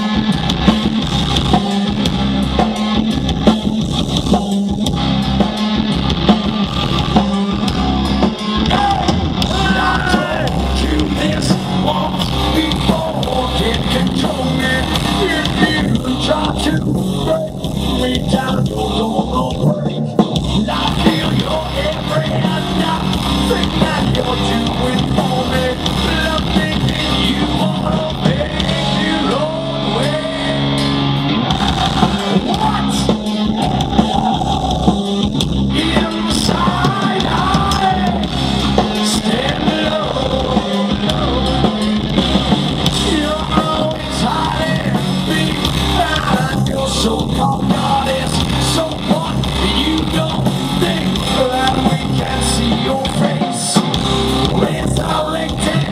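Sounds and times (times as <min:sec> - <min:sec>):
distorted electric guitar: 0:00.0 - 0:55.9
drum kit: 0:00.0 - 0:55.9
man singing: 0:07.0 - 0:55.9.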